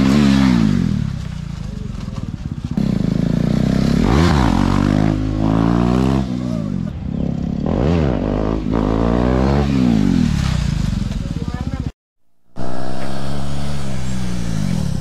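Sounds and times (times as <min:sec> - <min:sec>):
motorcycle engine revving: 0:00.0 - 0:11.9, 0:12.5 - 0:15.0.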